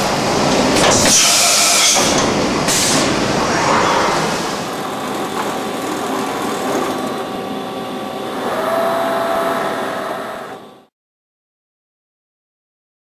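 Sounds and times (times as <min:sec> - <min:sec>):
machining centre humming: 0:00.0 - 0:10.9.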